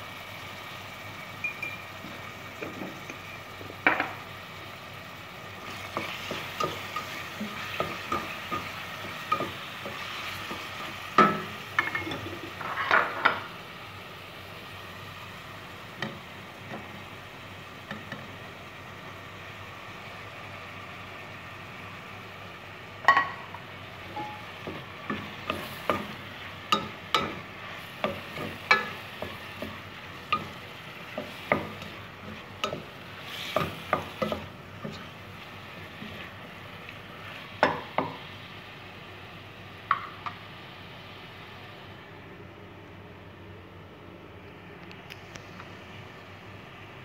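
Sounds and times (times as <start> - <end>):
food sizzling in a pot: 0.0 - 42.1.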